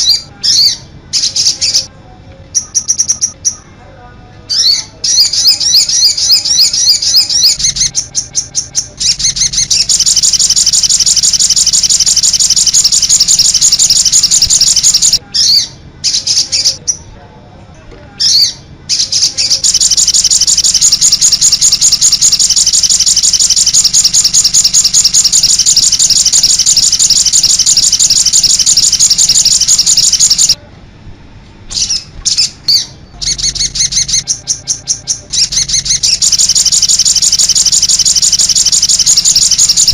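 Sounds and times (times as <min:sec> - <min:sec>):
songbird trilling: 0:02.6 - 0:03.6, 0:04.5 - 0:17.0, 0:18.2 - 0:30.6, 0:31.8 - 0:39.9.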